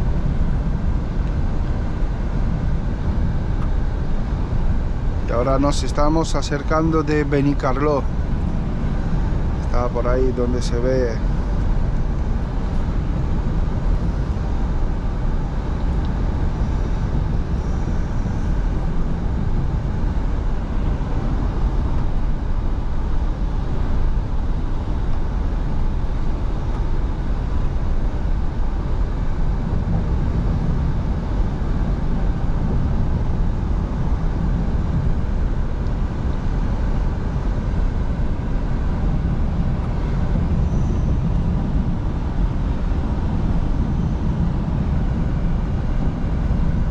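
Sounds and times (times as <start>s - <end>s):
diesel truck engine drone: 0.0s - 46.9s
road and tyre noise: 0.0s - 46.9s.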